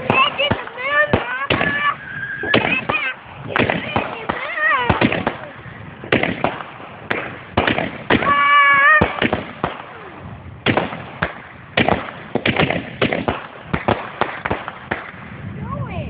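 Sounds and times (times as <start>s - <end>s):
fireworks and firecrackers banging: 0.0s - 15.9s.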